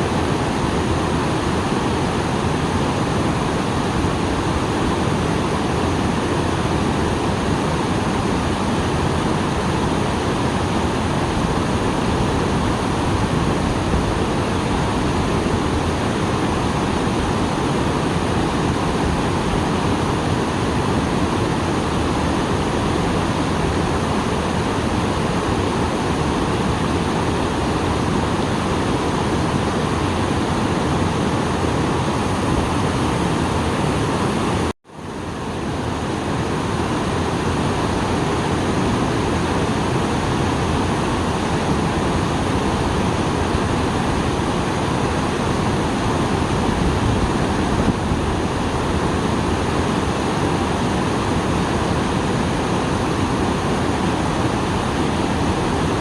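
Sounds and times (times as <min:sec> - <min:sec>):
waterfall water rushing: 0:00.0 - 0:56.0.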